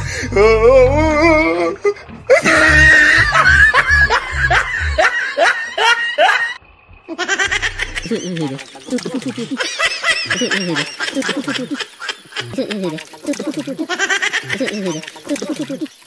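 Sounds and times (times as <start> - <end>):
laughter sound effect: 2.3 - 15.9.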